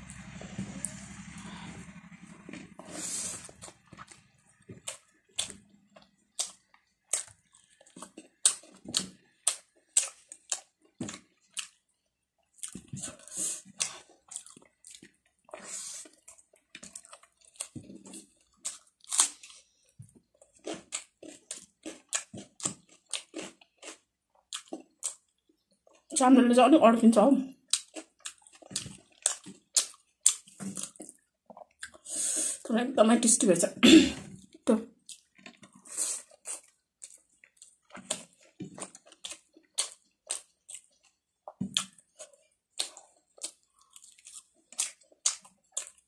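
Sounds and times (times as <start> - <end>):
wet chewing and lip-smacking: 2.8 - 26.1, 27.6 - 32.2, 34.4 - 46.0.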